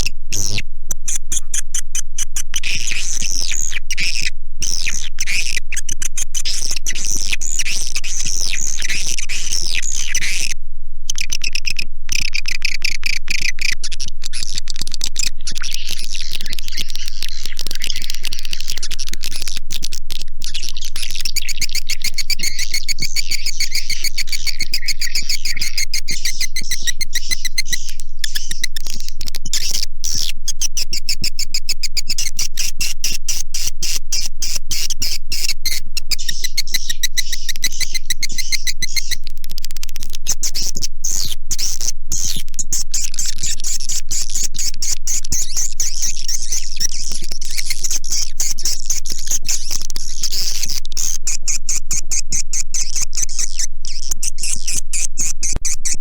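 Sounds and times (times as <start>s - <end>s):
recorded swiftlet twittering: 11.1s - 56.0s.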